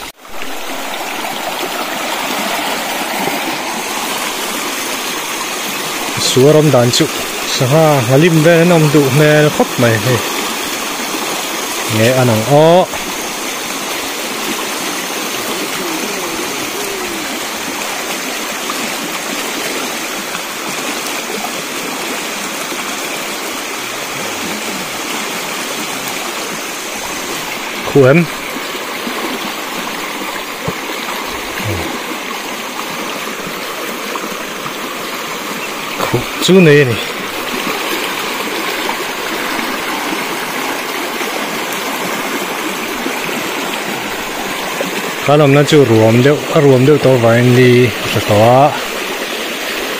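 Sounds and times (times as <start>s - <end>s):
river rushing over rocks: 0.0s - 49.9s.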